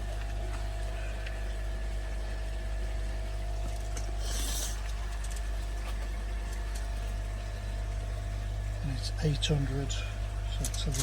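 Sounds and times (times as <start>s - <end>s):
pond pump humming: 0.0s - 11.0s.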